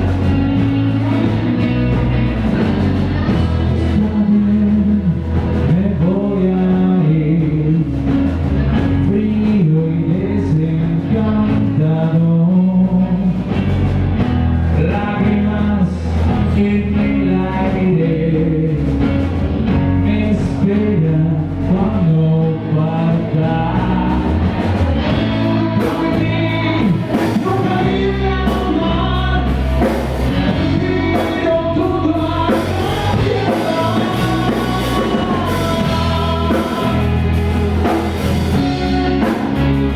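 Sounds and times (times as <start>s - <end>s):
lead vocal singing: 0.0s - 13.8s, 14.7s - 39.9s
rock band playing live: 0.0s - 39.9s.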